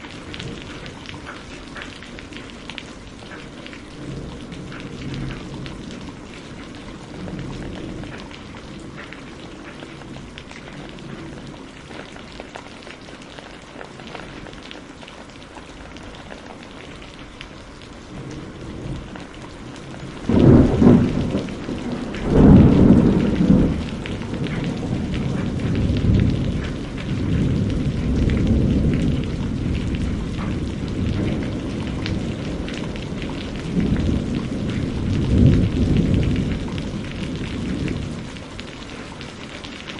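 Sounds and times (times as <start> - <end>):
steady rain falling: 0.0 - 39.9
thunder claps and rumble: 0.0 - 39.9.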